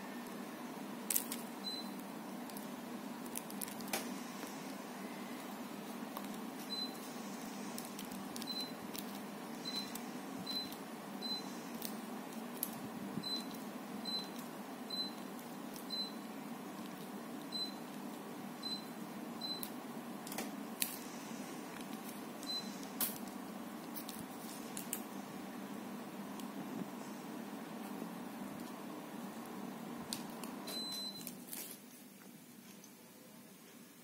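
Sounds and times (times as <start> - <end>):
air conditioner fan rushing: 0.0 - 32.0.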